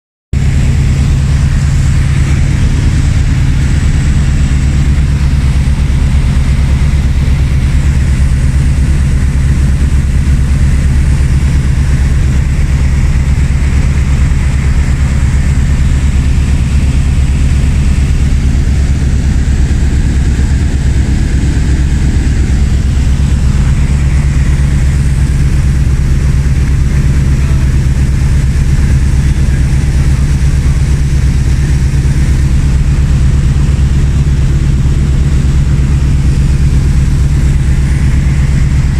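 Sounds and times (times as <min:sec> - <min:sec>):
propeller aircraft engine drone: 0:00.4 - 0:38.9.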